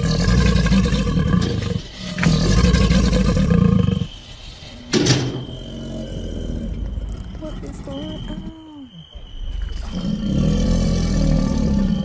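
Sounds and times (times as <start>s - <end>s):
alligator bellowing: 0.0s - 12.0s.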